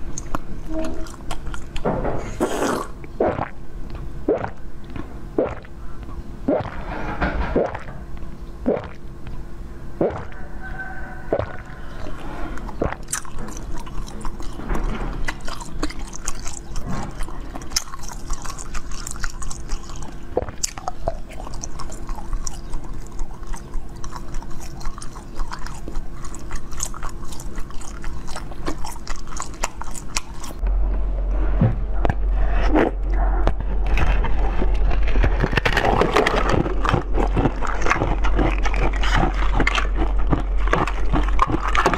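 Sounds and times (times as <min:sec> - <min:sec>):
chewing frozen jelly crackling: 0:00.0 - 0:30.6, 0:32.7 - 0:41.9.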